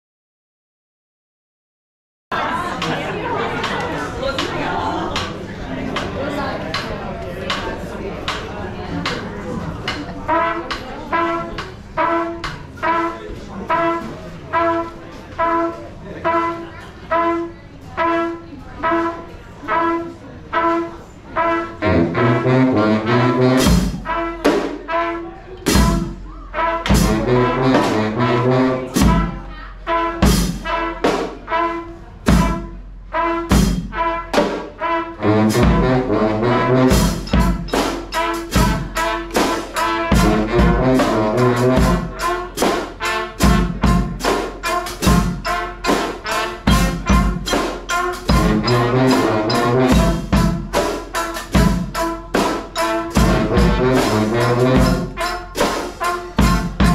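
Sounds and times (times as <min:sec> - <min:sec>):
brass band playing: 0:02.3 - 0:56.9
drums: 0:02.3 - 0:56.9.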